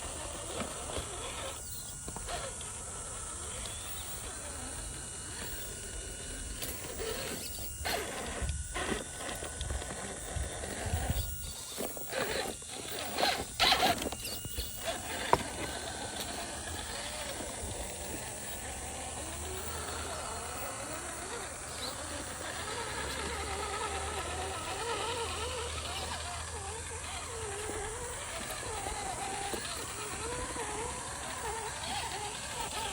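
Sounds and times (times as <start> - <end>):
small electric motor whining: 0.0 - 32.9
scraping and crunching: 0.1 - 32.9.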